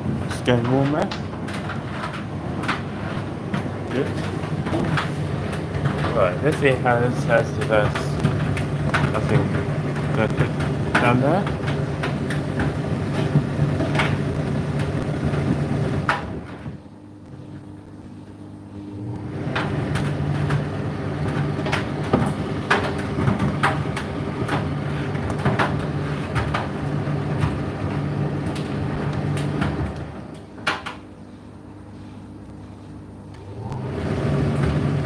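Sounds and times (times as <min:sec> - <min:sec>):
tumble dryer motor hum: 0:00.0 - 0:35.0.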